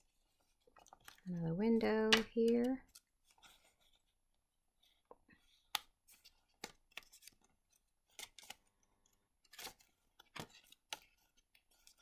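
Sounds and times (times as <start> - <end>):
soft paper rustling: 0.0 - 12.0.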